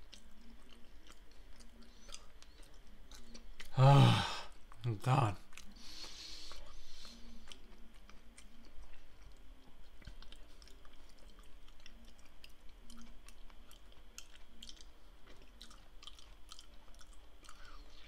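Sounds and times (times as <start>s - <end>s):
person chewing: 0.0s - 3.8s, 4.5s - 18.0s.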